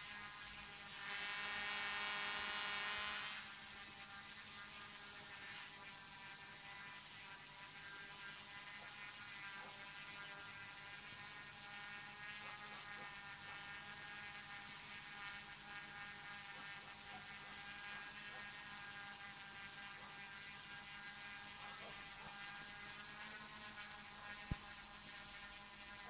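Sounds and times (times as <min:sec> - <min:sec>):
faint quadcopter motors humming: 0:00.0 - 0:26.0.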